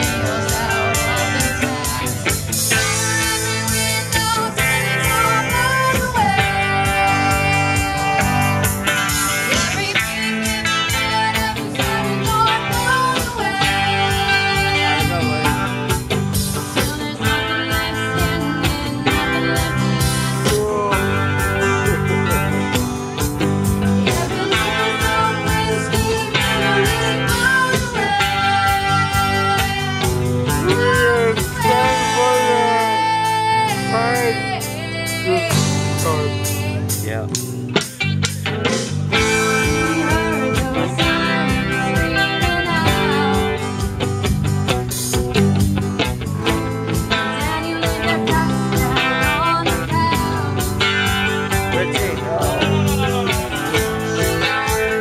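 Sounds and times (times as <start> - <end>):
bass guitar: 0.0 - 55.0
drum kit steady beat: 0.0 - 55.0
electric guitar: 0.0 - 55.0
live rock band playing: 0.0 - 55.0
strummed acoustic guitars: 0.0 - 55.0.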